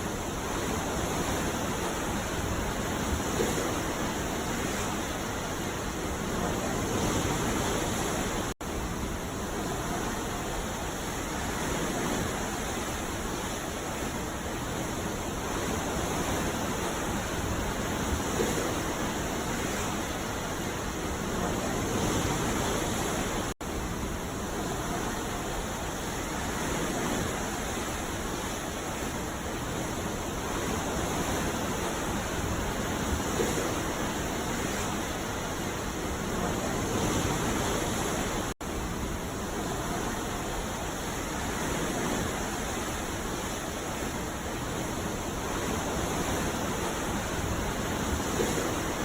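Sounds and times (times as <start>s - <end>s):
ocean waves breaking: 0.0s - 49.0s.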